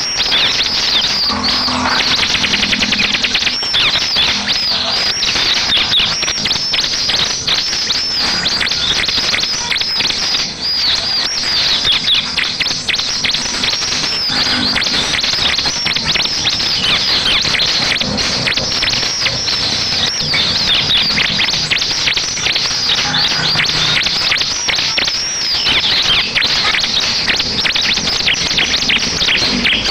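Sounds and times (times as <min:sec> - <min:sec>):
bird chirping song: 0:00.0 - 0:29.9.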